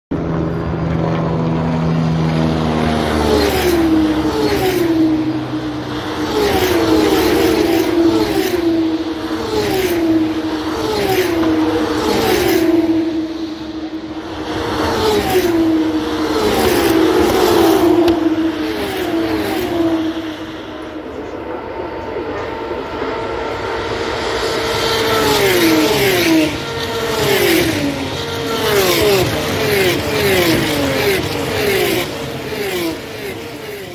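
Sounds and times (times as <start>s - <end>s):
race car engines passing: 0.1s - 33.9s.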